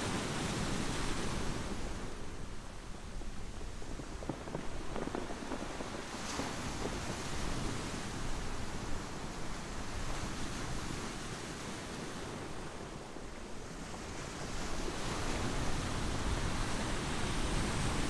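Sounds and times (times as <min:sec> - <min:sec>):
surf washing over pebbles: 0:00.0 - 0:18.0.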